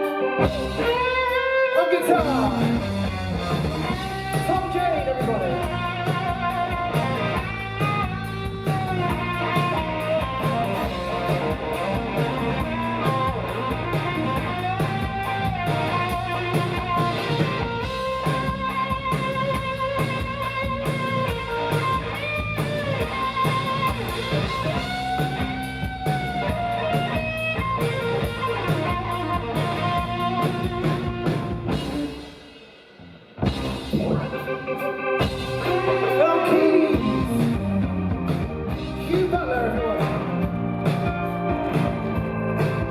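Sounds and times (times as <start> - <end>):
electric guitar bending notes: 0.0 - 42.9
live rock band playing: 0.0 - 42.9.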